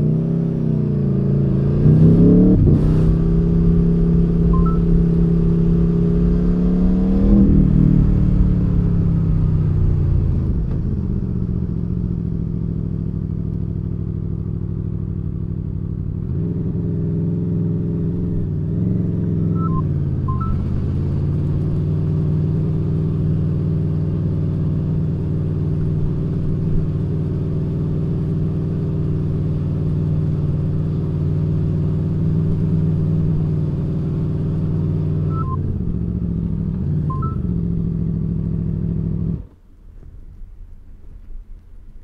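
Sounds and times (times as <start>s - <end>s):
motorcycle engine running: 0.0s - 39.5s.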